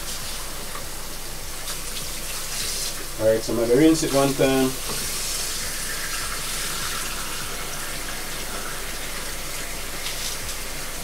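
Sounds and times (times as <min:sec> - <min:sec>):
kitchen tap running: 0:00.0 - 0:11.0.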